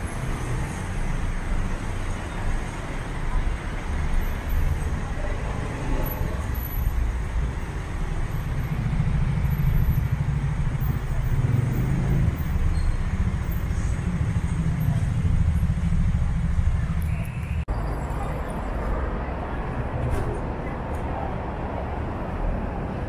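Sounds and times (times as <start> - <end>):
city street traffic rumble: 0.0 - 23.0.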